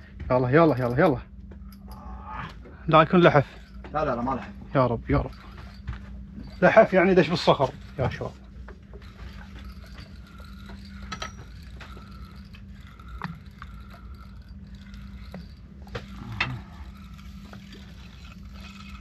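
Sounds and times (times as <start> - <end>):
steady low hum: 0.0 - 19.0
fishing reel clicking: 1.9 - 19.0.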